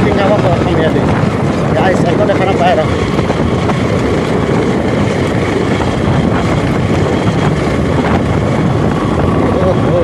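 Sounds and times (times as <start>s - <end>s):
motorcycle engine: 0.0s - 10.0s
wind buffeting microphone: 0.0s - 10.0s.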